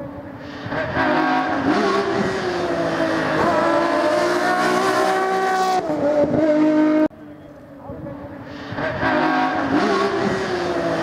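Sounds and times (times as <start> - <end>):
car engine at high revs: 0.0 - 7.1, 8.3 - 11.0.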